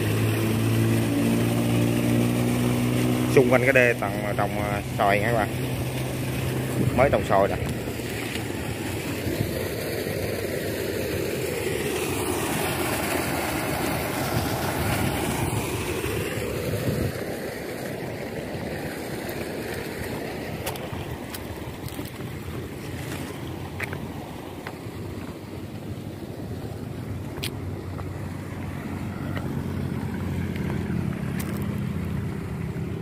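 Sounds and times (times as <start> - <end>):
pump engine running: 0.0 - 33.0.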